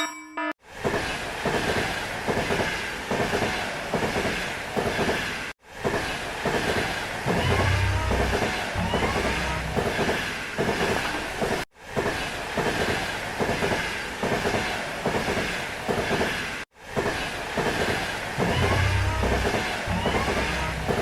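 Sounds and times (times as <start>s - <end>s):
train wheels clacking over rail joints: 0.8s - 21.0s.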